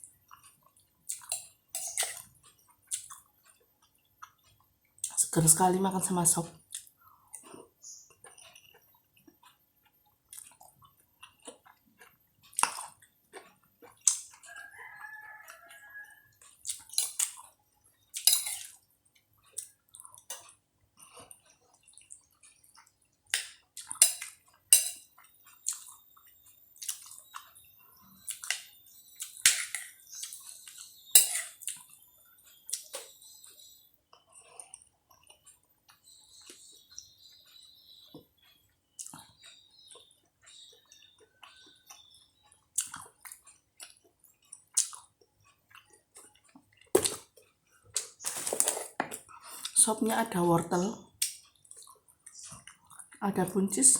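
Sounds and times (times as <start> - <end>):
chewing and mouth sounds: 0.0 - 5.2, 6.6 - 14.7, 16.4 - 29.4, 30.0 - 37.1, 38.4 - 49.8, 51.1 - 53.2.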